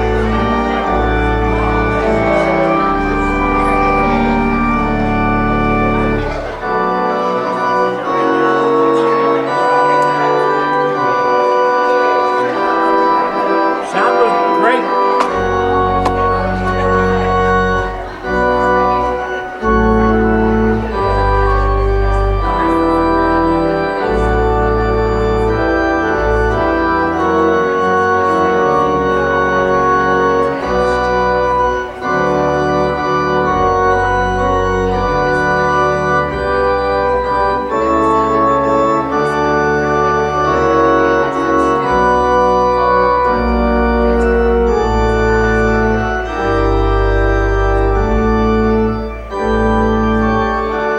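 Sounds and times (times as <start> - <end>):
organ chords: 0.0 - 50.9.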